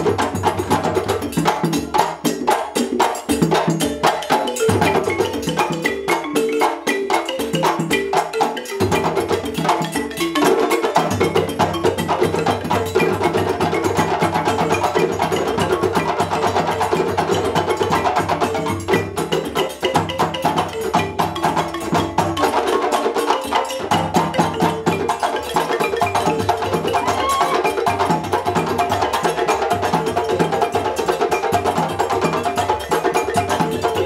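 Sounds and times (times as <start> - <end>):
balafon notes: 0.0 - 34.0
djembes struck by hand: 0.0 - 34.0.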